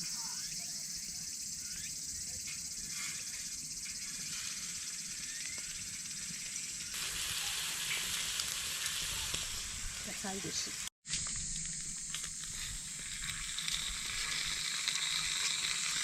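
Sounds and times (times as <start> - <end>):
insects chorus: 0.0 - 16.0
vegetables sizzling in a hot pan: 2.8 - 16.0.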